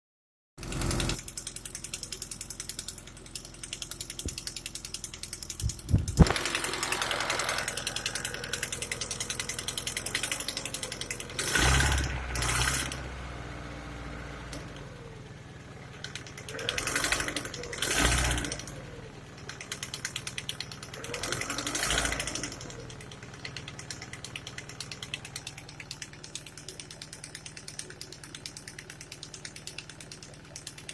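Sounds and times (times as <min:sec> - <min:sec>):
engine knocking and revving: 0:00.6 - 0:30.9.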